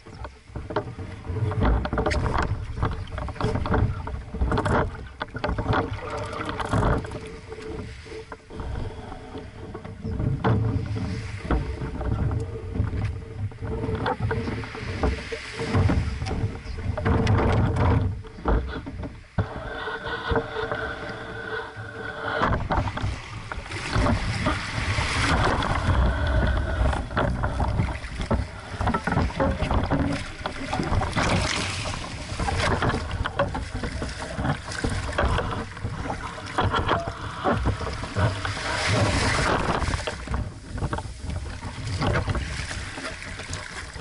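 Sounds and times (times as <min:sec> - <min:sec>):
knocks and splashes of wading: 0:00.0 - 0:44.0
water sloshing around boat hull: 0:00.0 - 0:44.0
wind on microphone: 0:00.0 - 0:44.0.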